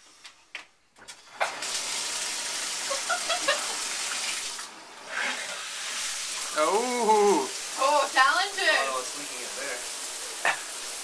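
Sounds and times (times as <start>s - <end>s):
shower spray hissing: 1.5s - 11.0s.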